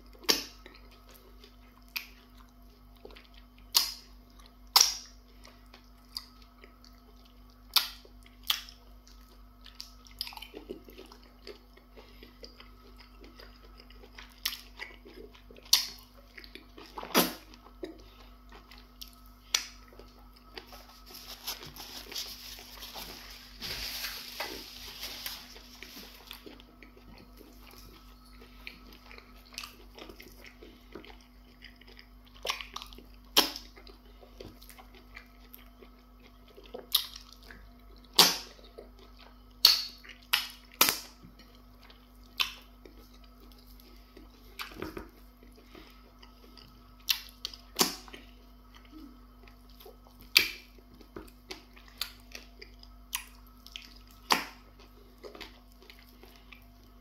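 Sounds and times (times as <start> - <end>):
low steady hum: 0.0 - 57.0
mouth smacking and chewing: 0.2 - 22.2, 25.5 - 57.0.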